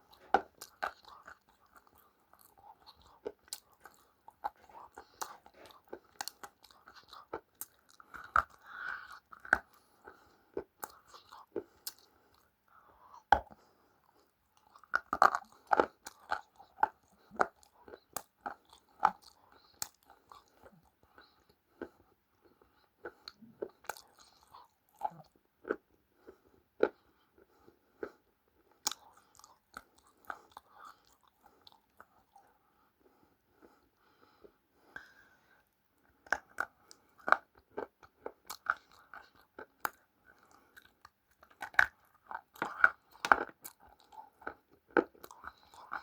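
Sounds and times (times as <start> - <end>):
person chewing crunchy food: 0.0 - 32.6, 33.6 - 46.0.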